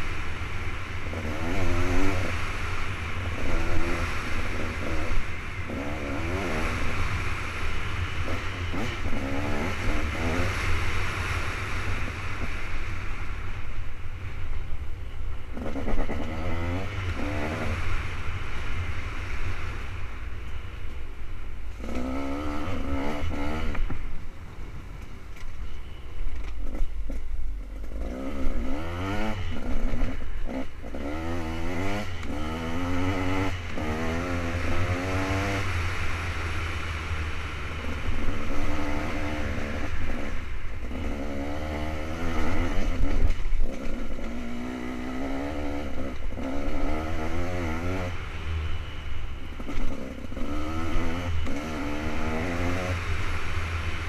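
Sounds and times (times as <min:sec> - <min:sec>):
dirt bike engine revving: 0:00.0 - 0:13.0, 0:15.5 - 0:19.8, 0:21.7 - 0:23.9, 0:27.8 - 0:54.0.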